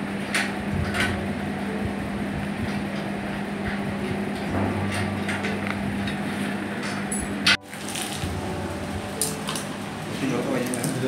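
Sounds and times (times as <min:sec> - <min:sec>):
deeper hum: 0:00.0 - 0:11.0
steady low hum: 0:00.0 - 0:11.0.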